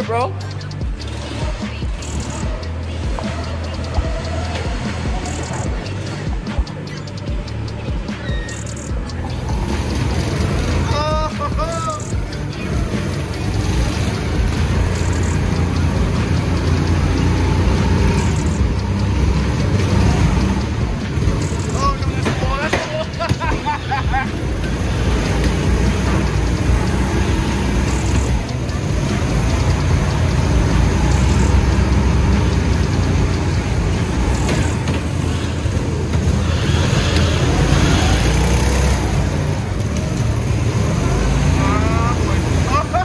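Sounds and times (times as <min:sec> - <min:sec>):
drift kart engine rumble: 0:00.0 - 0:43.0.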